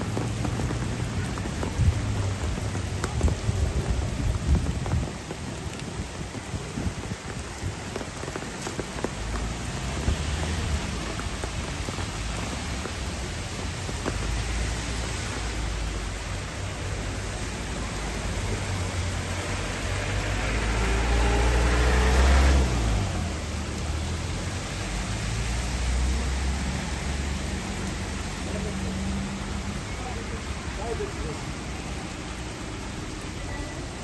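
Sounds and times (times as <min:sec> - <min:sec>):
heavy rain pattering: 0:00.0 - 0:34.0.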